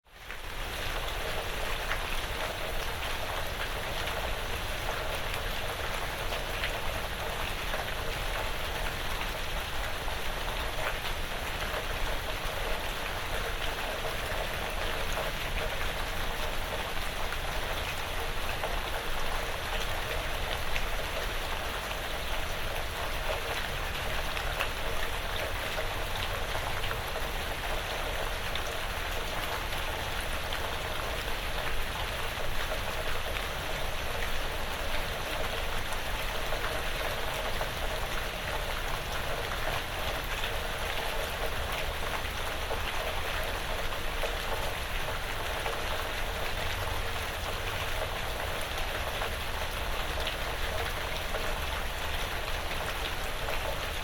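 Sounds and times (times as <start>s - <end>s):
rain pattering on a roof: 0.0s - 54.0s.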